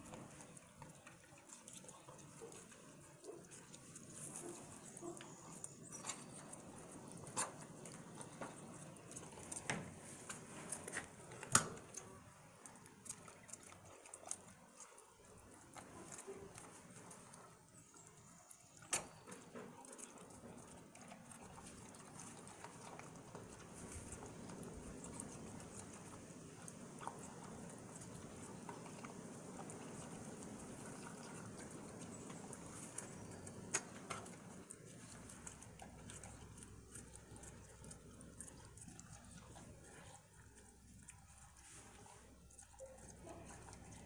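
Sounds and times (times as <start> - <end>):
beaks pecking watermelon: 0.0 - 44.0.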